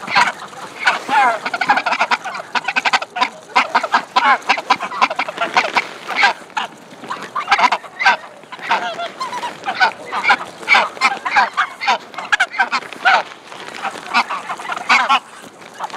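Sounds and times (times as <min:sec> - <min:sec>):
geese bills pecking on pavement: 0:00.0 - 0:15.9
geese honking: 0:00.0 - 0:15.9.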